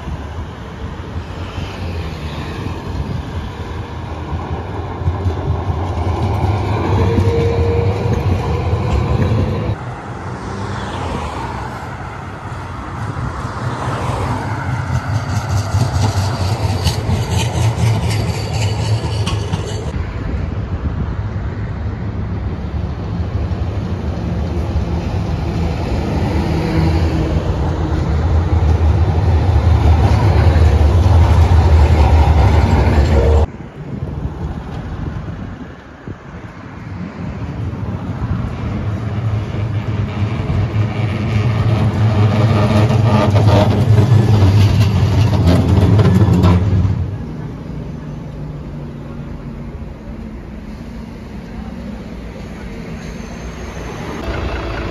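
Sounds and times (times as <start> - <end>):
road traffic: 0.0 - 54.9
street noise: 0.0 - 54.9
trams passing: 0.0 - 54.9.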